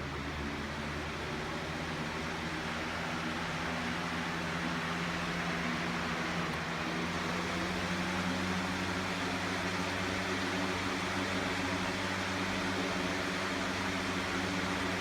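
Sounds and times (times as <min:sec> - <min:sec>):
fan motor hum: 0:00.0 - 0:15.0.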